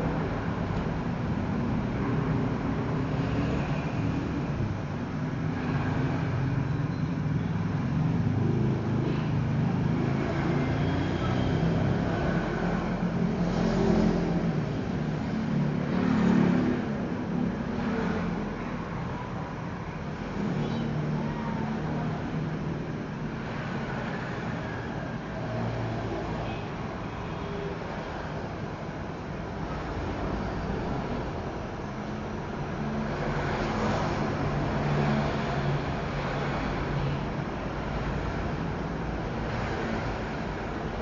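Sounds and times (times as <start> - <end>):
low rumble of vehicles: 0.0 - 41.0.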